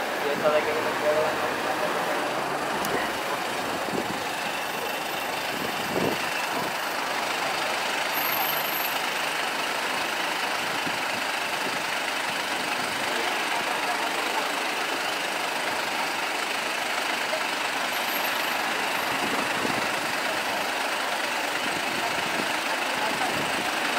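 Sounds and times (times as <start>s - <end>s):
diesel engine running and idling: 0.0s - 23.9s
street noise: 0.0s - 23.9s.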